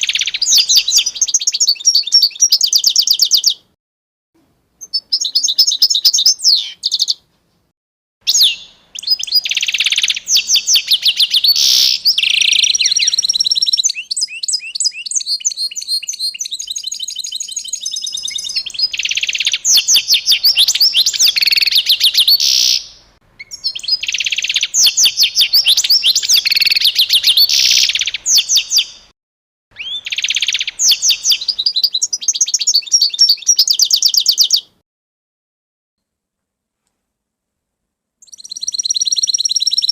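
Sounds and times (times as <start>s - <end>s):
songbird chirping and trilling: 0.0s - 3.8s, 4.8s - 7.3s, 8.3s - 29.1s, 29.7s - 34.8s, 38.2s - 39.9s.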